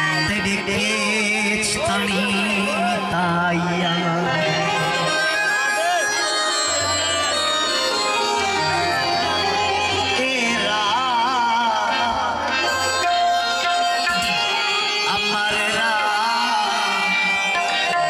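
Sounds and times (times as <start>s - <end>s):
folk music lead melody: 0.0s - 18.0s.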